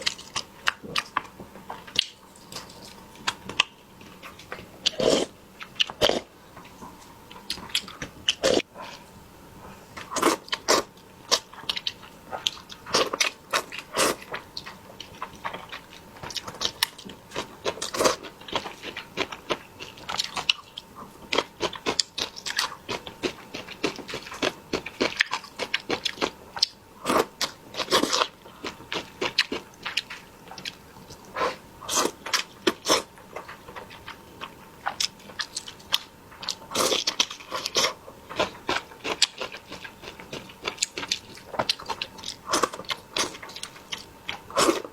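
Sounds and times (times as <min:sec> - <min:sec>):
chewing and crunching: 0:00.0 - 0:44.9.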